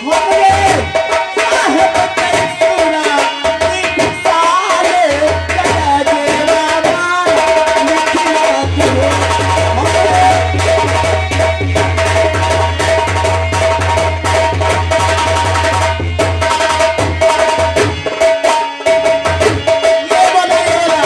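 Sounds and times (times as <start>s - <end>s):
rapid hand drum strokes: 0.0s - 21.0s.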